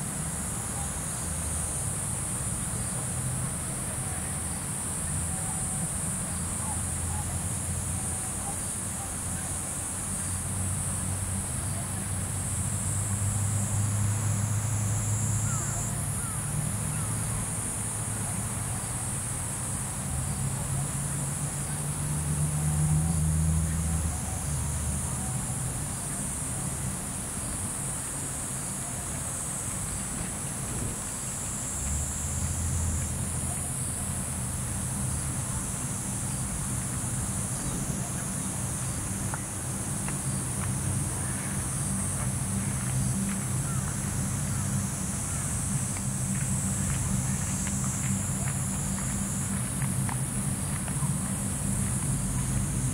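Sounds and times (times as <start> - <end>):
insects chorus: 0.0 - 52.9
low engine hum: 0.0 - 52.9.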